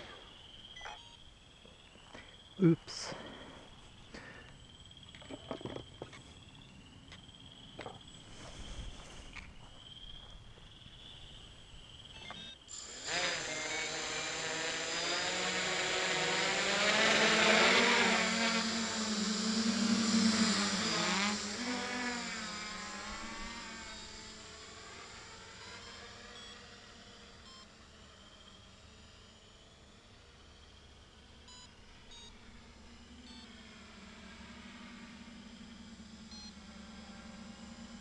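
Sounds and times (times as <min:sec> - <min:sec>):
drone motors buzzing whine: 0:00.0 - 0:38.0.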